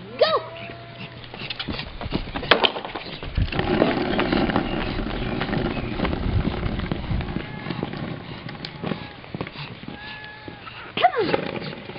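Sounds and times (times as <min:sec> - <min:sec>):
skateboard wheels rolling on asphalt: 0:01.3 - 0:11.9.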